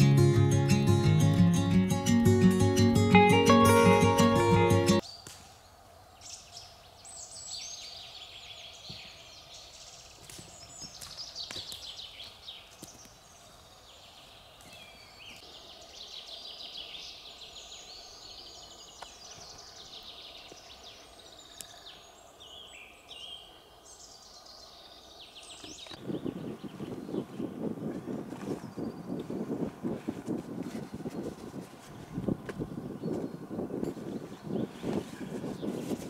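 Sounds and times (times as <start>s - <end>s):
songbirds chirping and trilling: 5.0s - 29.9s, 30.6s - 36.0s.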